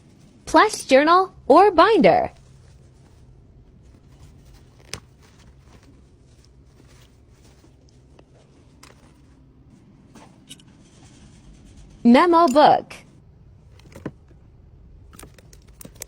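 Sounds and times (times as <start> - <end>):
soft rustling of packed items: 0.0 - 16.0.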